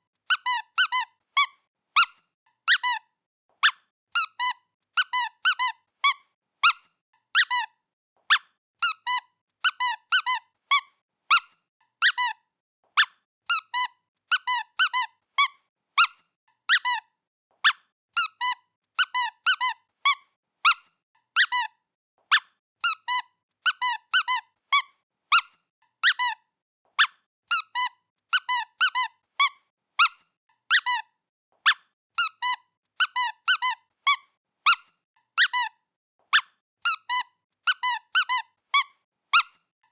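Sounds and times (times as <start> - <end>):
squeaky toy squeaking: 0.3 - 12.4, 13.0 - 39.6.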